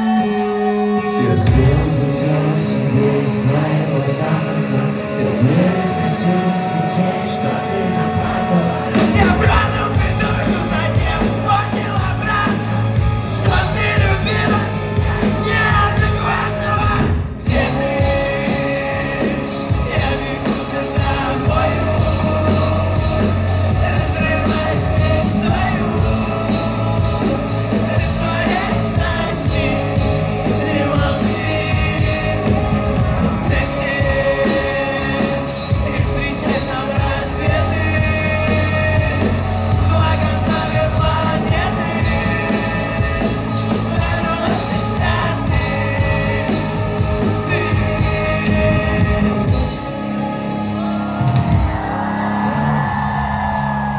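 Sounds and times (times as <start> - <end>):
person singing: 0.0 - 53.9
live rock band playing: 4.9 - 52.4.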